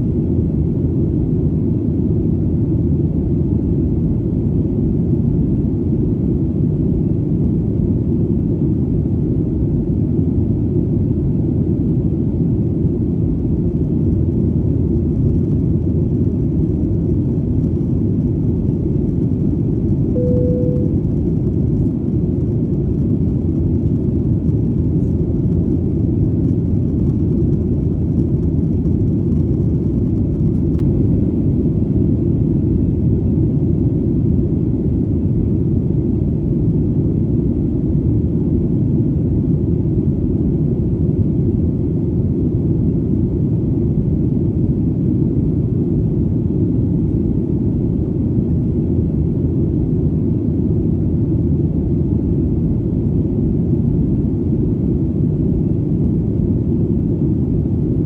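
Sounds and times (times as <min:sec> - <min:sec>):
airplane drone in flight: 0:00.0 - 0:58.0.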